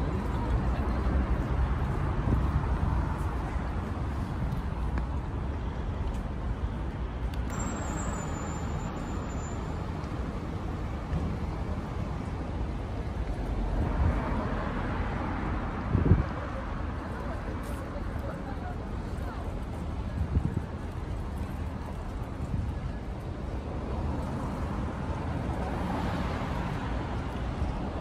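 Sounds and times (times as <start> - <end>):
road vehicles passing: 0.0 - 28.0.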